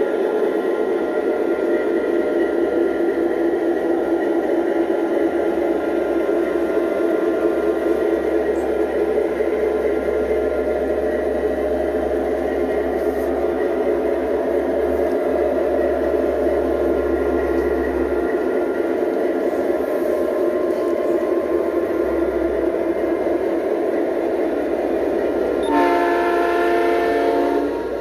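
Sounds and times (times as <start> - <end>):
model train wheels whirring on rail: 0.0 - 28.0.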